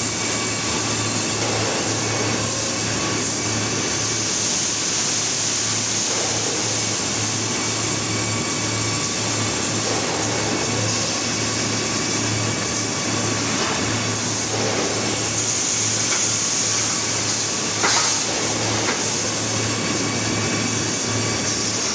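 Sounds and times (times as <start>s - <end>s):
machinery noise: 0.0s - 21.9s.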